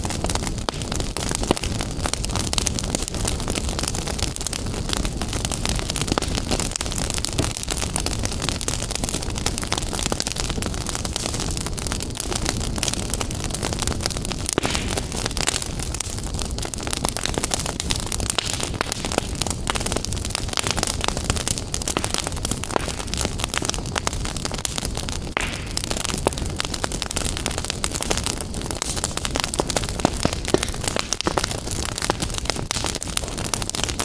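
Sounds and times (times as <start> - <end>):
fire crackling in fireplace: 0.0 - 34.0.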